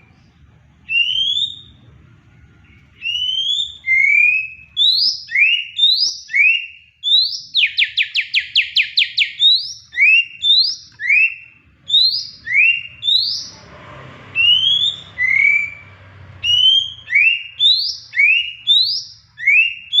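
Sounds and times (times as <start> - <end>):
bird singing whistled notes: 0.0 - 1.9, 2.6 - 13.6, 14.4 - 20.0.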